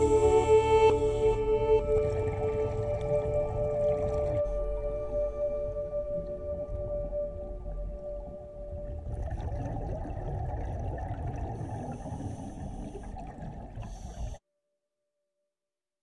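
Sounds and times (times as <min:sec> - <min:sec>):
crackling water noise: 0:00.0 - 0:14.4
underwater low rumble: 0:00.0 - 0:14.4.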